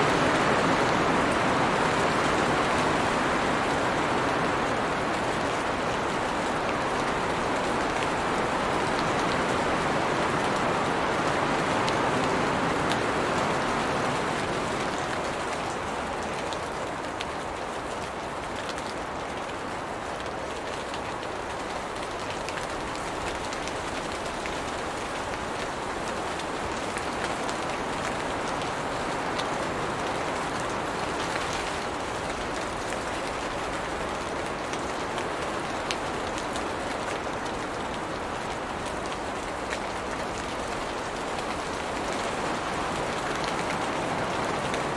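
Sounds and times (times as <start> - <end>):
rain falling on leaves: 0.0 - 44.9.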